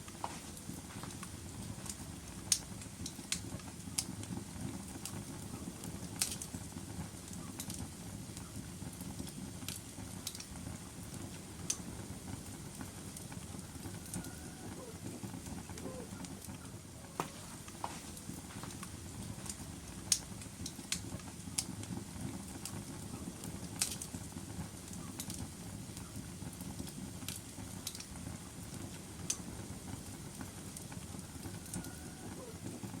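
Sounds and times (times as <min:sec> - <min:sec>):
fire rumbling: 0:00.0 - 0:33.0
wood crackling and popping: 0:00.0 - 0:33.0.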